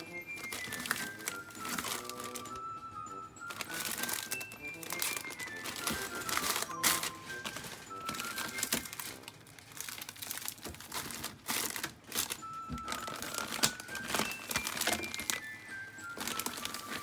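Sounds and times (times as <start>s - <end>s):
light background music: 0.0s - 17.0s
plastic packaging crinkling: 0.0s - 17.0s.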